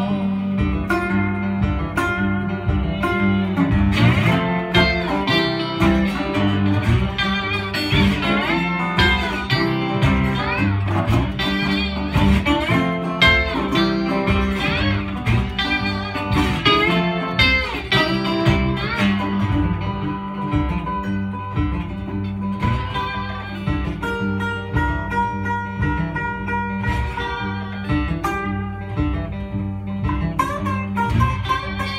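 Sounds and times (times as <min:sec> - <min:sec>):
low bass line: 0:00.0 - 0:31.9
slide guitar: 0:00.0 - 0:31.9
strummed acoustic guitar: 0:00.0 - 0:31.9.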